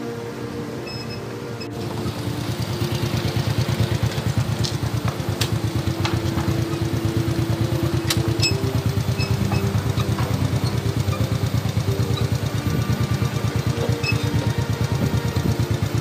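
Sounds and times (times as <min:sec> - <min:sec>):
motor scooter engine idling: 0:01.7 - 0:16.0.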